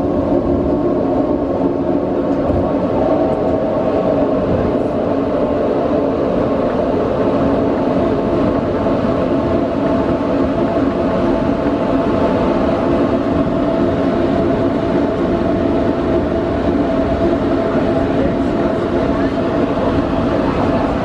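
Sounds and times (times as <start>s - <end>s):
aircraft engines humming in cockpit: 0.0s - 21.0s.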